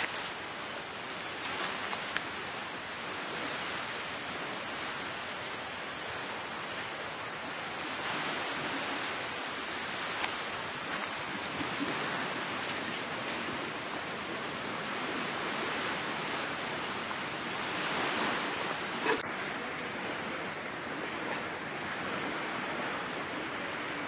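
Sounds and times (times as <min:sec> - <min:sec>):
surf washing on beach: 0:00.0 - 0:24.0.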